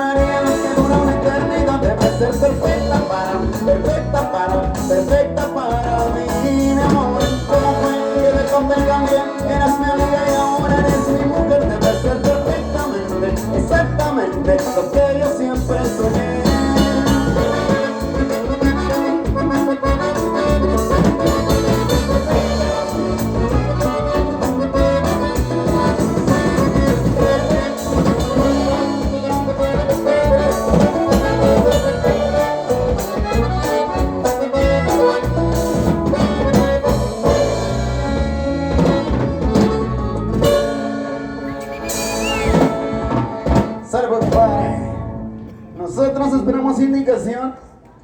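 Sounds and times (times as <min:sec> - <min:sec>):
drums steady beat: 0:00.0 - 0:44.7
latin band playing instrumental: 0:00.0 - 0:48.0.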